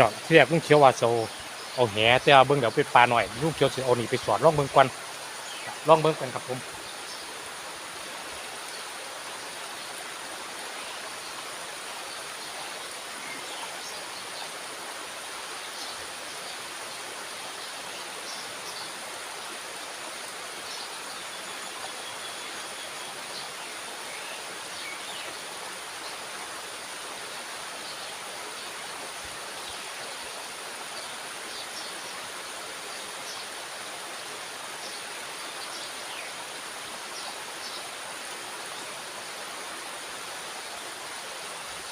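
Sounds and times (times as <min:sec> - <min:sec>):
water rushing through spillway: 0:00.0 - 0:41.9.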